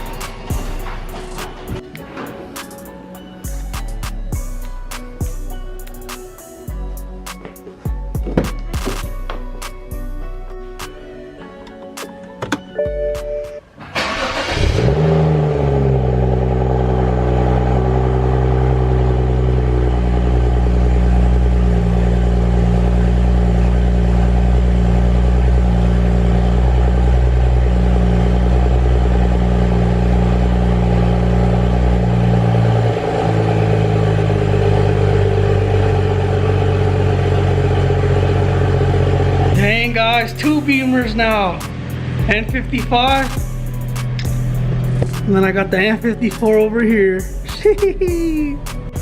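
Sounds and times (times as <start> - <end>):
car engine starting and idling: 0.0 - 49.0.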